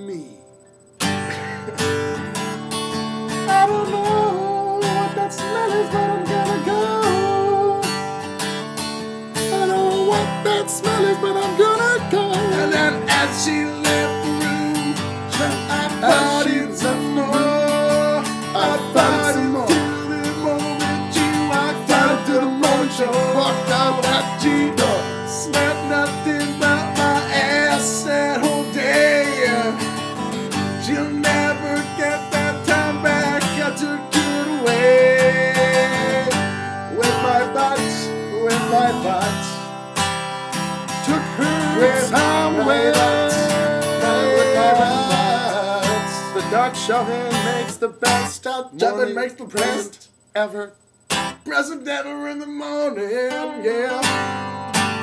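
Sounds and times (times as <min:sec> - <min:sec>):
acoustic guitar strumming: 0:00.0 - 0:55.0
person singing: 0:03.3 - 0:08.3, 0:09.4 - 0:39.6, 0:41.0 - 0:50.1, 0:51.5 - 0:54.4.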